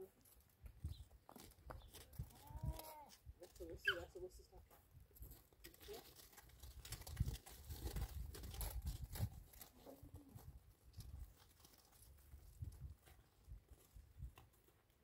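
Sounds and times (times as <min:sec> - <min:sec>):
hooves knocking on stony ground: 0:00.0 - 0:15.0.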